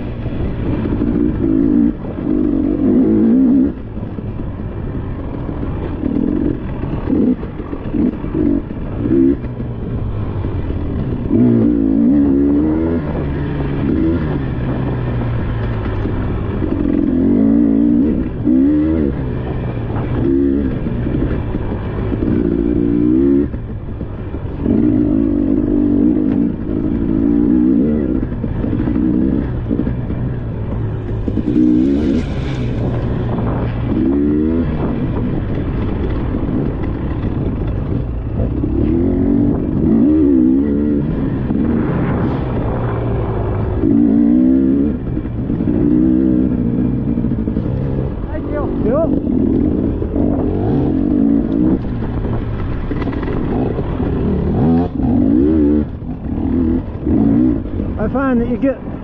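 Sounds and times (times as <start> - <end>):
dirt bike engine revving: 0.0 - 4.0, 4.9 - 59.0
steady riding noise: 0.0 - 59.0.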